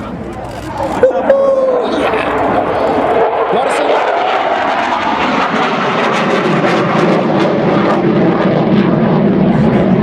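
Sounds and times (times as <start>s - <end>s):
fighter jet roaring overhead: 0.0s - 10.0s.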